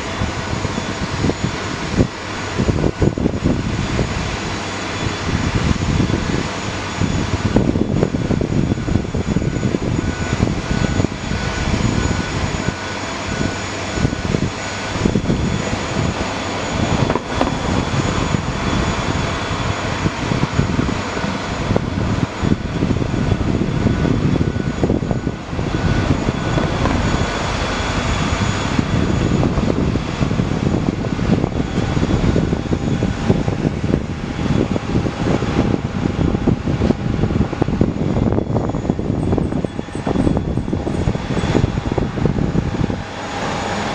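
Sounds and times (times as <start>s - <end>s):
turboprop engine whine and rumble: 0.0s - 43.9s.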